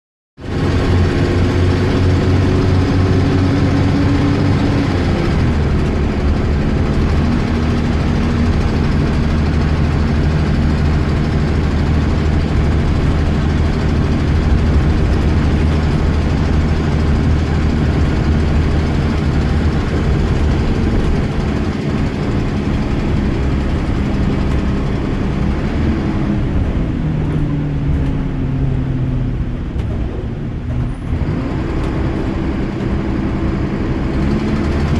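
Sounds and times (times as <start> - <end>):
bus diesel engine running: 0.4 - 34.9.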